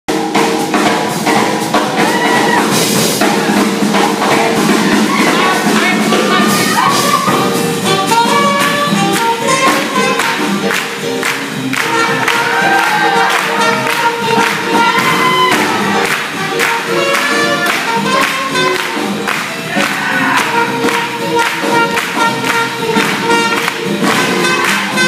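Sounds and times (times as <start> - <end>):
drums: 0.1 - 25.0
swing jazz band playing: 0.1 - 25.0.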